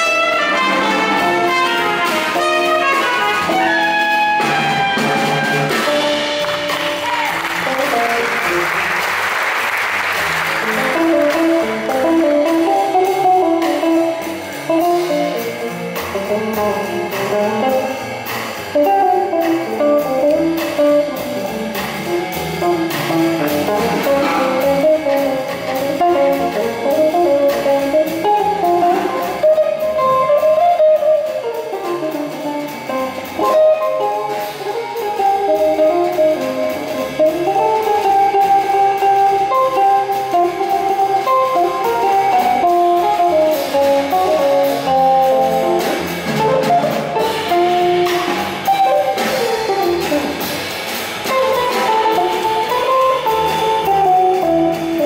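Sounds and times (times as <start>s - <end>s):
electric guitar playing jazz: 0.0s - 55.0s.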